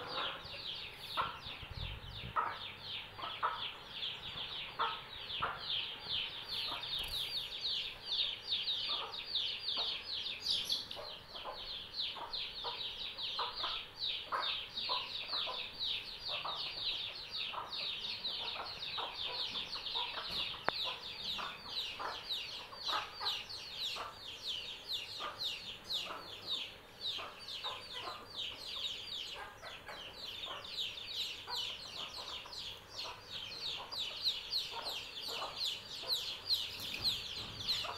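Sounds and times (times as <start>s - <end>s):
chicks peeping: 0.0s - 37.9s
hen clucking: 0.0s - 37.9s.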